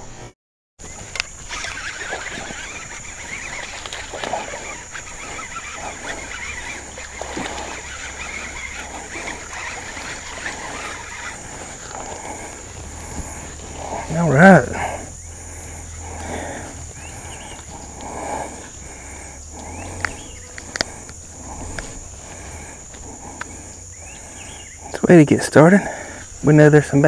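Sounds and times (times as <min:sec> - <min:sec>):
fish splashing in water: 0:00.9 - 0:24.3
fishing reel cranking: 0:00.9 - 0:27.0.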